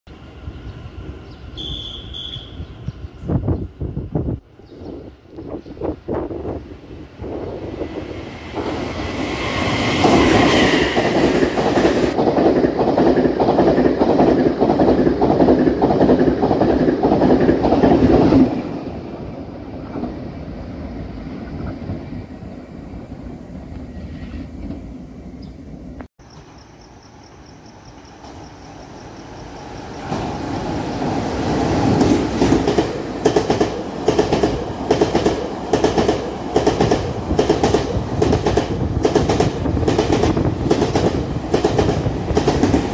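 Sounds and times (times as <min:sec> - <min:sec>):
train passing at speed: 0:00.1 - 0:42.9.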